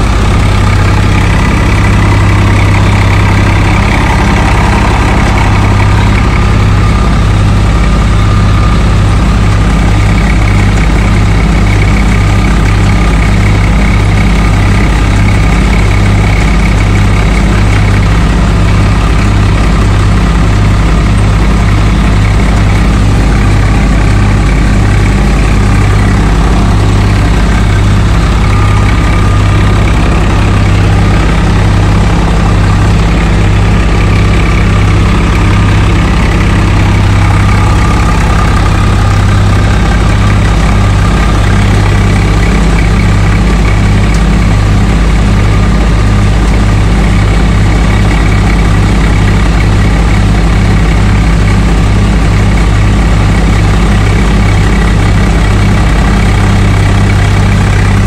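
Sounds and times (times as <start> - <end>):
threshing drum whirring: 0.0 - 58.0
tractor diesel engine running: 0.0 - 58.0.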